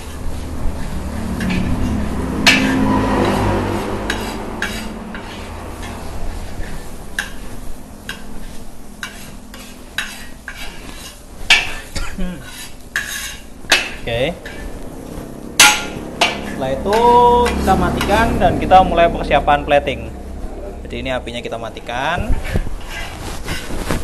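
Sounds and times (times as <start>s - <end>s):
metal spatula scraping a wok: 0.0s - 18.4s, 22.2s - 24.0s.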